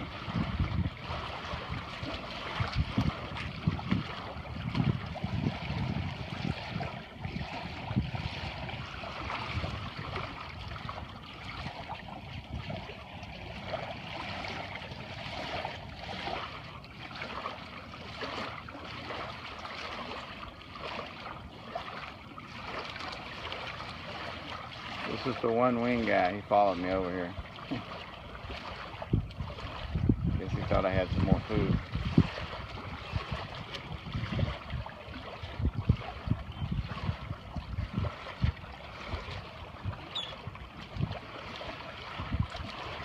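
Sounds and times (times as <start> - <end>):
lake water lapping and splashing: 0.0 - 43.0.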